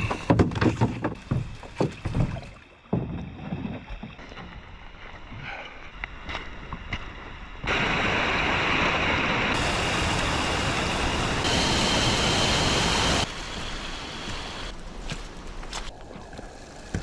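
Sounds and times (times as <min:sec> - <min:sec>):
rushing water: 0:01.2 - 0:17.0.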